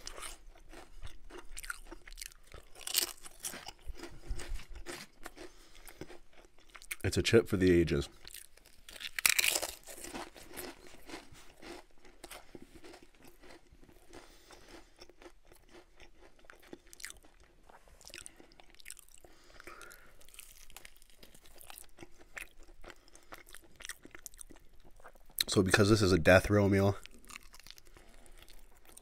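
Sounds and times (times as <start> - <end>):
chewing: 0.0 - 7.1, 8.1 - 25.5, 27.0 - 29.0
potato chip crunching: 0.0 - 25.9, 26.9 - 29.0.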